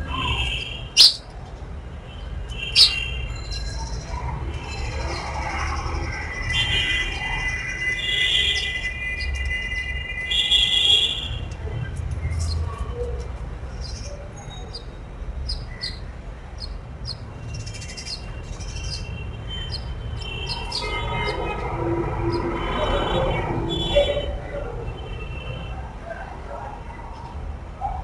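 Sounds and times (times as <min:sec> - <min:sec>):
sparrows chirping: 0:00.0 - 0:01.4, 0:02.0 - 0:24.5.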